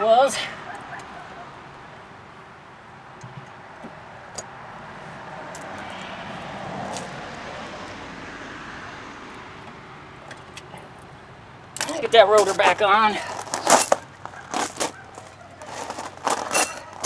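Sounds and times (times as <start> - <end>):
road vehicle passing by: 0.0 - 17.0.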